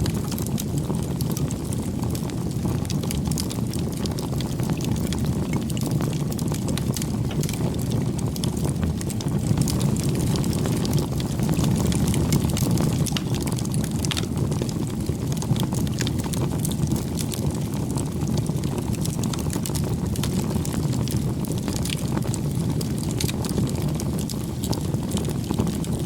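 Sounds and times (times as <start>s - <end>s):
bonfire flames rushing: 0.0s - 26.0s
burning wood crackling and popping: 0.0s - 26.0s.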